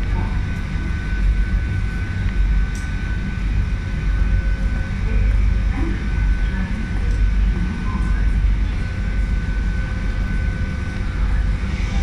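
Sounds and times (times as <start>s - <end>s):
thin steady whine: 0.0s - 12.0s
train rumble and hum: 0.0s - 12.0s.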